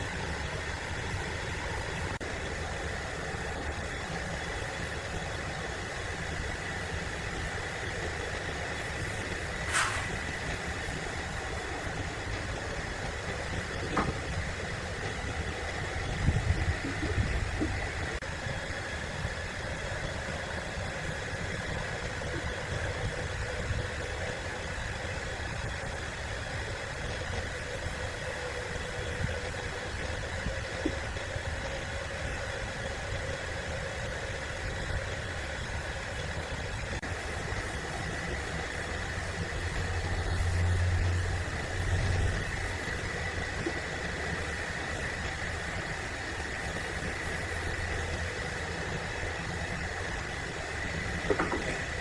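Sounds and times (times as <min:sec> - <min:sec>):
machinery whine: 0:00.0 - 0:52.0
sawmill machinery drone: 0:00.0 - 0:52.0.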